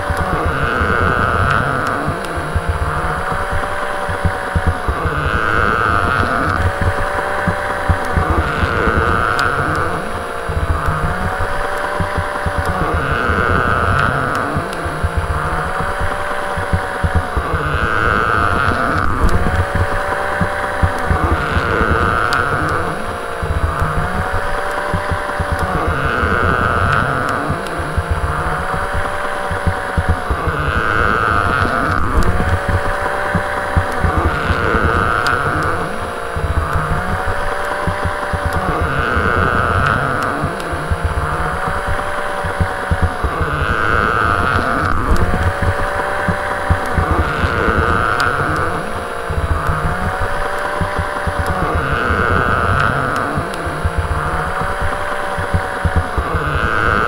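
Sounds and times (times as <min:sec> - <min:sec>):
plastic creaking: 0:00.0 - 0:57.0
toy motor whining: 0:00.0 - 0:57.0.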